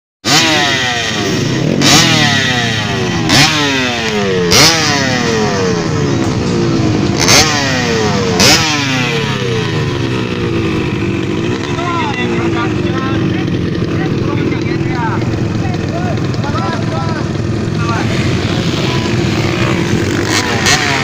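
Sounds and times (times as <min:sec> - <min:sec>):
motocross bike engine revving: 0:00.2 - 0:21.0.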